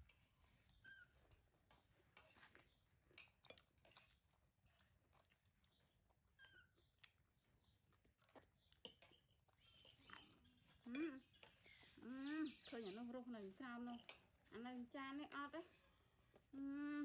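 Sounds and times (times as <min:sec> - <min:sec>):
monkey chewing: 0:00.0 - 0:15.0.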